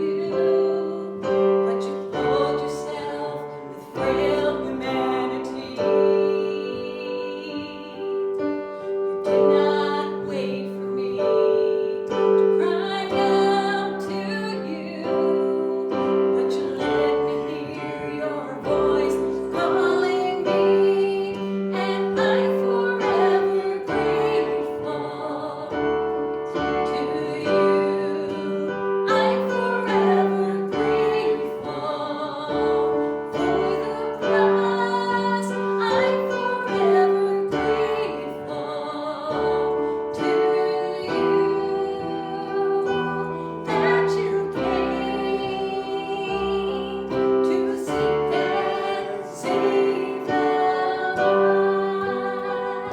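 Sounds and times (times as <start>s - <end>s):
piano accompaniment: 0.0s - 52.9s
woman singing: 0.0s - 52.9s.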